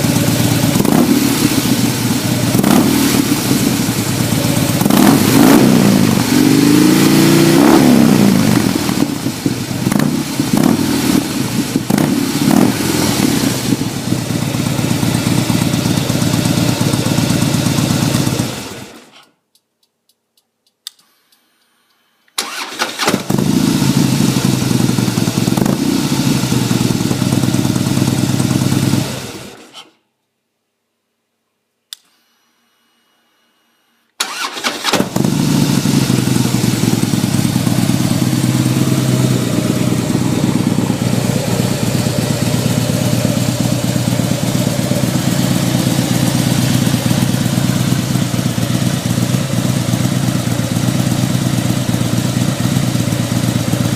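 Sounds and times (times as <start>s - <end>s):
loud motorcycle engine revving: 0.0s - 19.0s, 23.1s - 29.6s, 34.2s - 53.9s.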